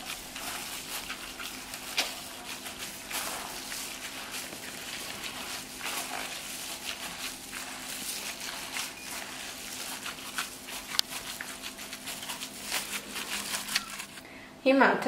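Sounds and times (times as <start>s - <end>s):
plastic glove crinkling: 0.0s - 14.3s
wet squelching of kneaded meat: 0.0s - 14.3s.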